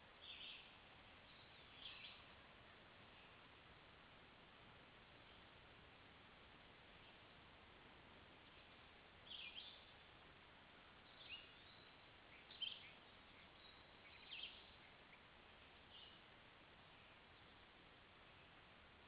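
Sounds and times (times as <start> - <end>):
faint steady hiss: 0.0 - 19.0
songbird chirps and trills: 0.0 - 19.0.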